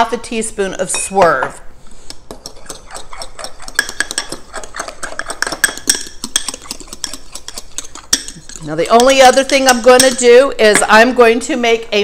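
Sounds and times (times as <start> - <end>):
utensil stirring batter in bowl: 1.8 - 11.6.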